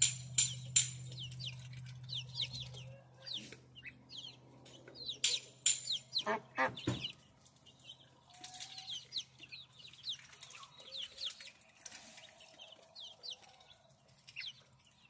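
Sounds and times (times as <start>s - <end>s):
goslings peeping: 0.4s - 13.7s.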